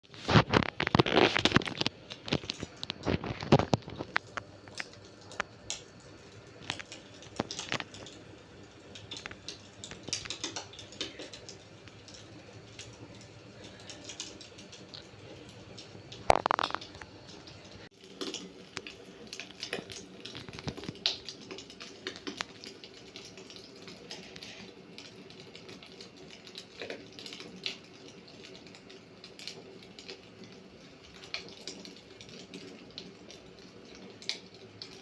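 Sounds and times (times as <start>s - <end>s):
wood fire crackling in fireplace: 0.0s - 35.0s.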